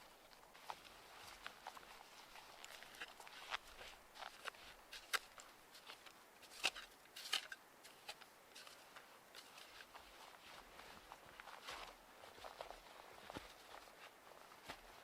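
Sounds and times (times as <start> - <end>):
snow crunching: 0.0 - 15.0.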